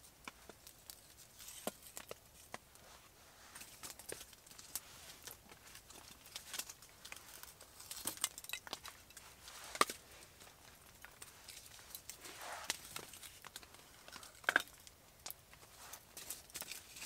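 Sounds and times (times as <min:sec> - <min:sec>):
wood fire crackling and popping: 0:00.0 - 0:02.8, 0:03.6 - 0:17.0.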